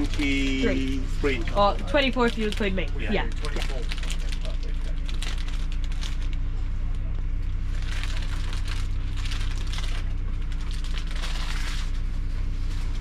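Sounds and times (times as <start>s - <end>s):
crackly rustling: 0.0s - 13.0s
diesel engine idling: 0.0s - 13.0s.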